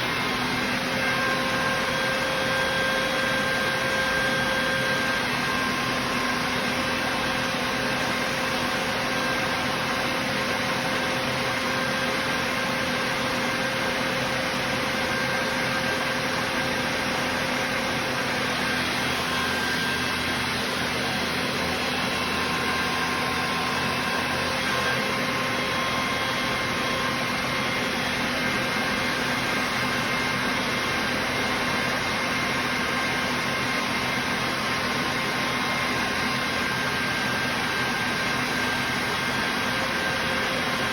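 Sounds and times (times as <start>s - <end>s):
air compressor running: 0.0s - 40.9s.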